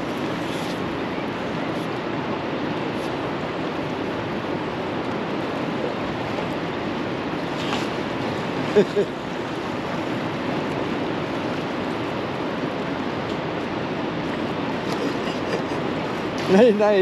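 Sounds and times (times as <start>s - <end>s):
turbulent river water rushing: 0.0s - 17.0s
wind: 0.0s - 17.0s.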